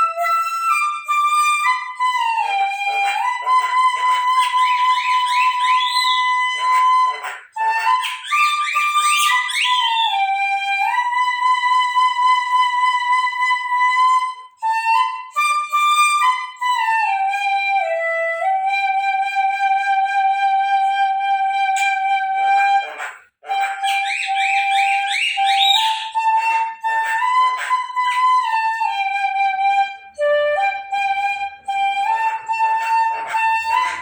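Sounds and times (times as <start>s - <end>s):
bamboo flute solo melody: 0.0s - 34.0s.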